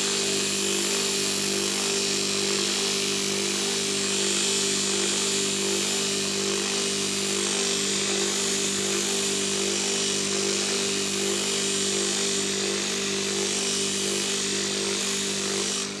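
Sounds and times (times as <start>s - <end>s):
electric buffing wheel running: 0.0s - 16.0s.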